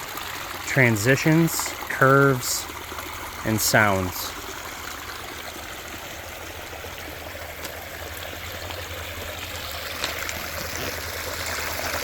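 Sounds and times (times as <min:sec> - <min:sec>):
stream water over rocks: 0:00.0 - 0:12.0.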